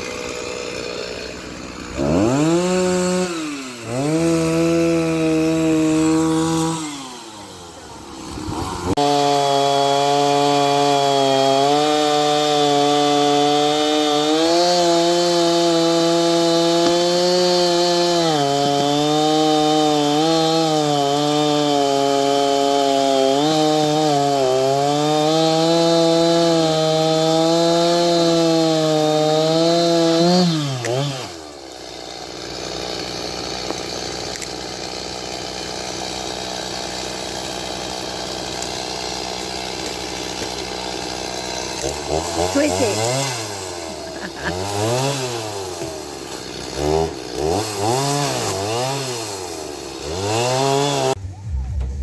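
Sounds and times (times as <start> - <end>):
chainsaw running at high speed: 0.0 - 51.2.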